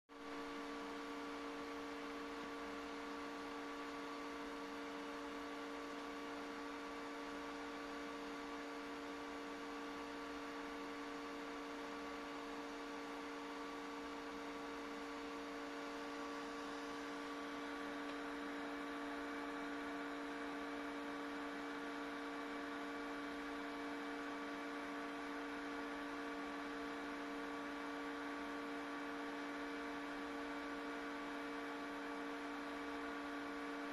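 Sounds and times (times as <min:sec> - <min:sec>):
electrical hum: 0:00.1 - 0:33.9.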